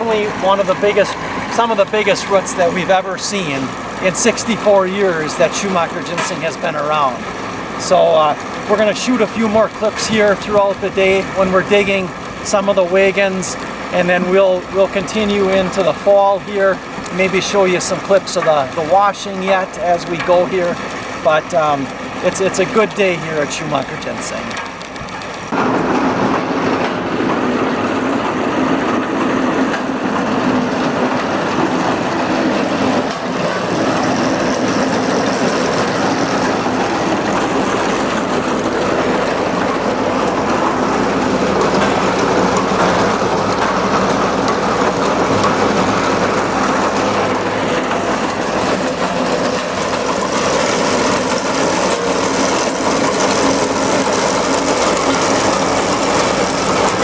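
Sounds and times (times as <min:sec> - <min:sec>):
mechanical rattling: 0:00.0 - 0:57.0
tractor engine drone: 0:00.0 - 0:57.0.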